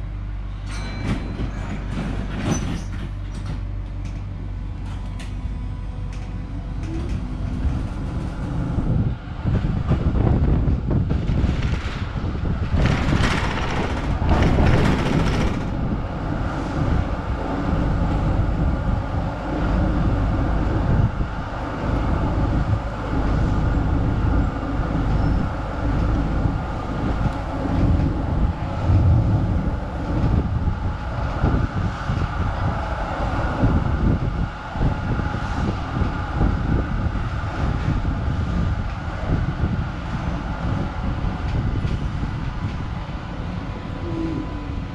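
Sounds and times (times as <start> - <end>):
tram rumbling and rattling on rails: 0.0 - 44.9.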